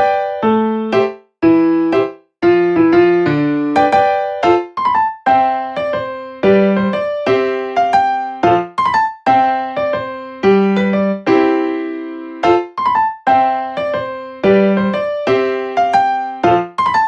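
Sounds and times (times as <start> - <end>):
light piano tune: 0.0 - 17.0.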